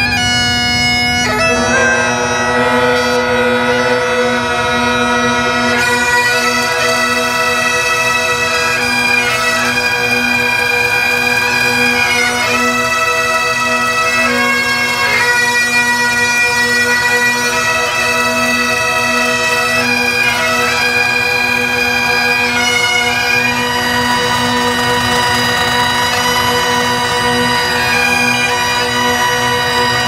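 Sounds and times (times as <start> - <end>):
bagpipes playing a tune: 0.0 - 30.0.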